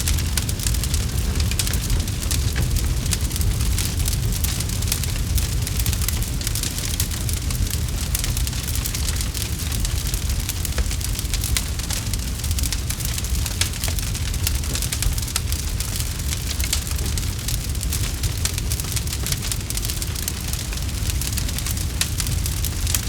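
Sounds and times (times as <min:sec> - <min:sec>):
campfire crackling: 0:00.0 - 0:23.0
low rumble of flames: 0:00.0 - 0:23.0.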